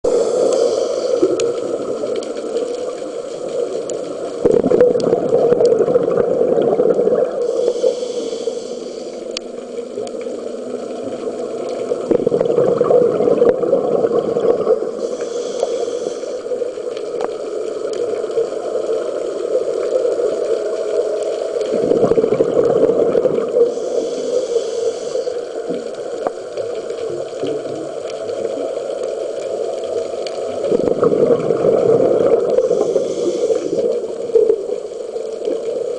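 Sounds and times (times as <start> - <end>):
muffled underwater water rush: 0.0 - 35.9
scuba exhaust bubbles hissing: 0.0 - 35.9.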